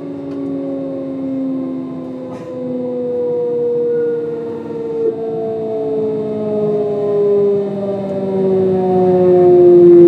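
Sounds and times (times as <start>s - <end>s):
train motors whining: 0.0s - 10.0s.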